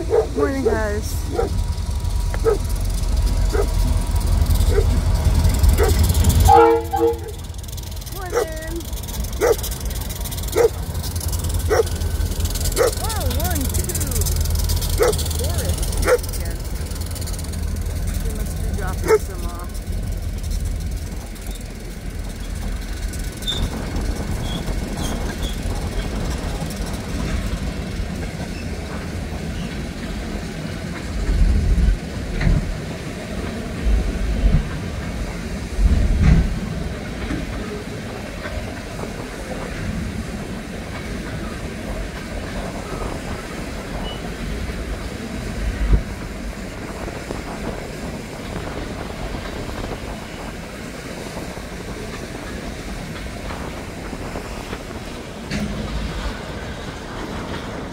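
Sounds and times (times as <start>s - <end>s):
freight cars rolling on rails: 0.0s - 57.9s.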